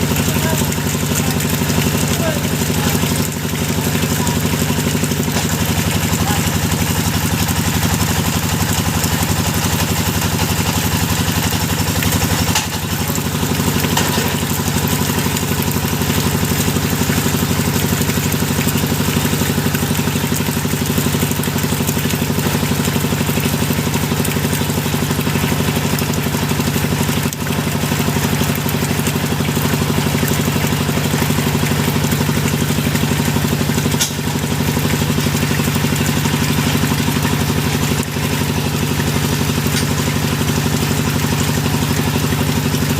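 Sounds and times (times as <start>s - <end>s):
drilling machine engine running: 0.0s - 42.9s.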